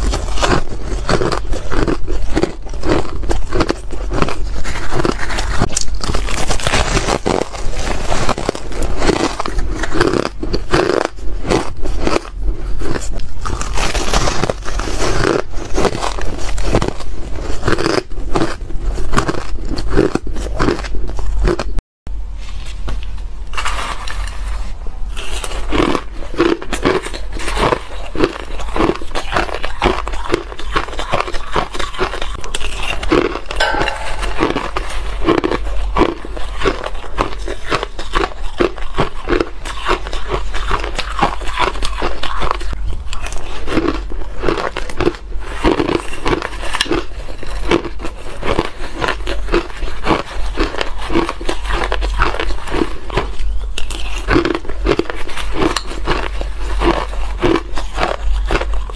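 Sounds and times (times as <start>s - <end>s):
ice being chewed and crunched: 0.0s - 21.8s, 23.5s - 33.7s, 34.8s - 58.9s.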